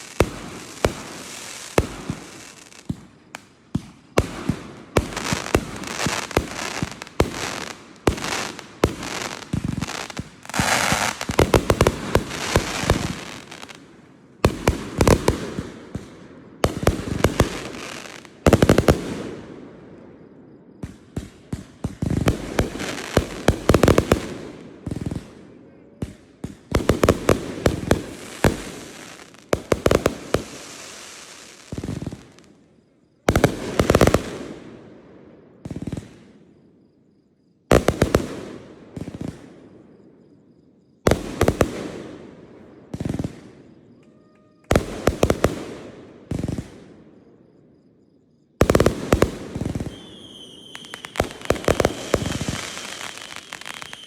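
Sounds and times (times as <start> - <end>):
fireworks bangs and crackles: 0.0 - 36.9, 37.6 - 40.3, 40.9 - 47.6, 48.5 - 54.0.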